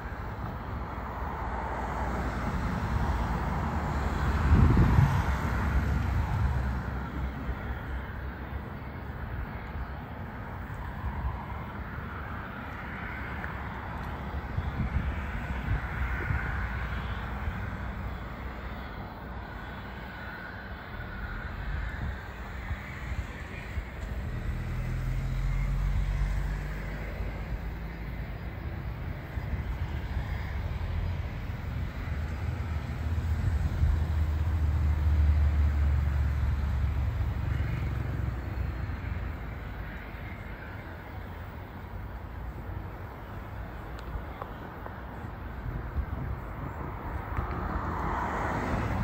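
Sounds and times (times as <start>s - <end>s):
wind gusting on microphone: 0.0s - 8.3s, 9.1s - 18.6s, 20.6s - 40.8s, 45.1s - 49.0s
distant jet engine whine: 0.0s - 49.0s.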